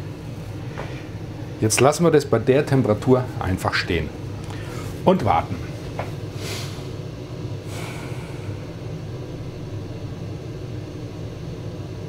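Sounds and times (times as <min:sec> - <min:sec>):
induction hob humming: 0:00.0 - 0:12.0.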